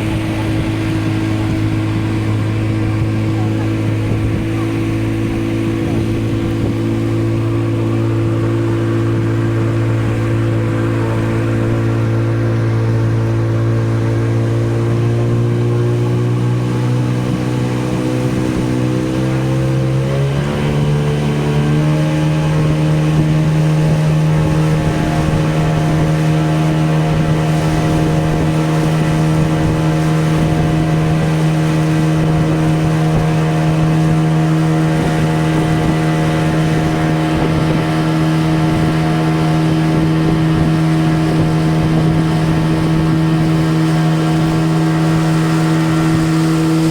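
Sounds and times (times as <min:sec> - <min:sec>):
boat engine humming: 0:00.0 - 0:46.9.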